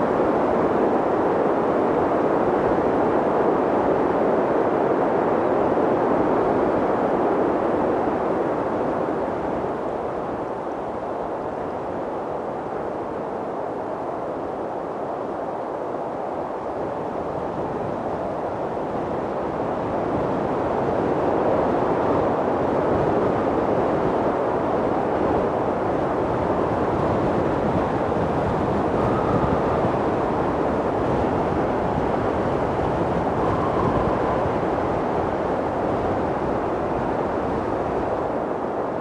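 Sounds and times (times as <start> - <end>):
strong wind rushing: 0.0 - 39.0
whistling wind howls: 0.0 - 39.0.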